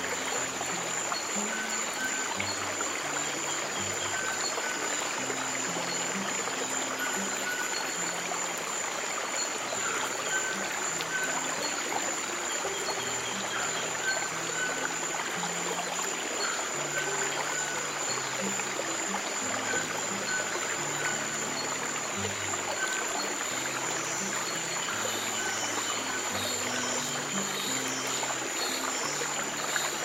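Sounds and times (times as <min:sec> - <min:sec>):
stream of water running: 0:00.0 - 0:30.0.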